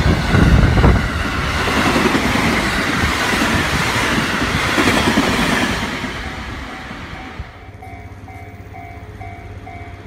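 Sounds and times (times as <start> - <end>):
freight train rumbling on rails: 0.0 - 10.0.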